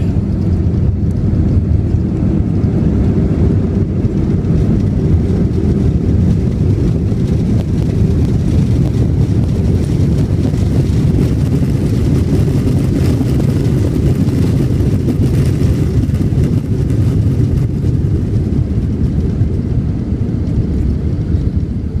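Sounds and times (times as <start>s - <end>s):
jet airliner landing rumble: 0.0s - 22.0s.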